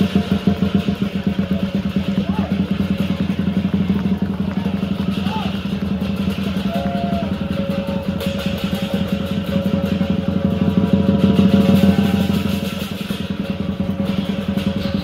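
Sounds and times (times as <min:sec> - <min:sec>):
low steady rumble: 0:00.0 - 0:15.0
music with long held notes: 0:00.0 - 0:15.0.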